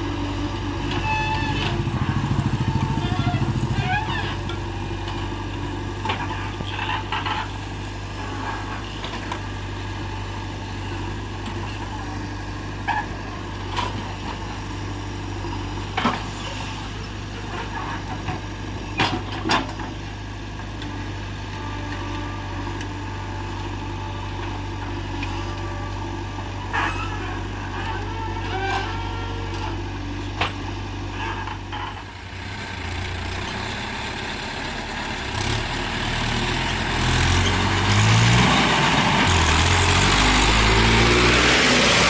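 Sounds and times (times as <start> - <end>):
diesel engine running under load: 0.0 - 42.0.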